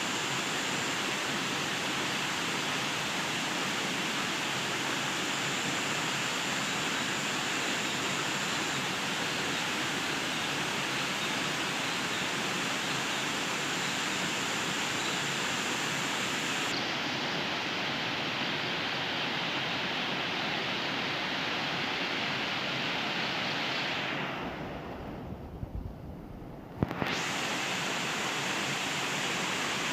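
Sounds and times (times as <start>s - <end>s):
stream water rushing: 0.0s - 25.0s, 26.8s - 29.9s.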